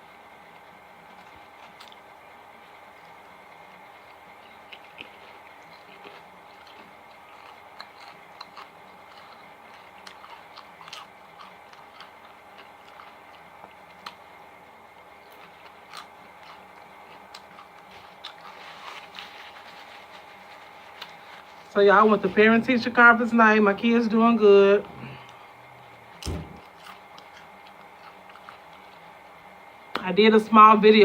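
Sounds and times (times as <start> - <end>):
faint steady hum: 0.0 - 31.0
person chewing food: 0.6 - 14.4, 15.1 - 21.7, 24.9 - 29.4.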